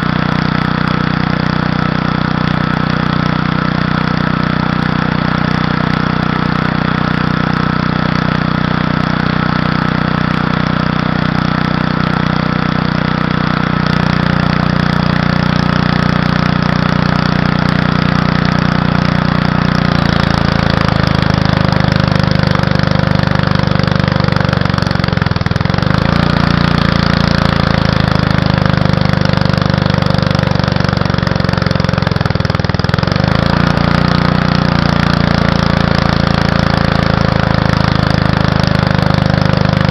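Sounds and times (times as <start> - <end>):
small gasoline engine bogging: 0.0 - 39.9.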